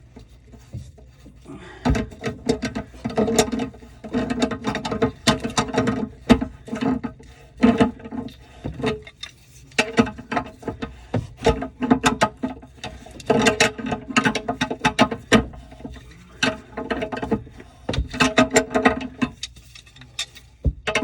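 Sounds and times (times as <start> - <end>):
plumbing tools clicking and rattling: 0.0 - 21.0.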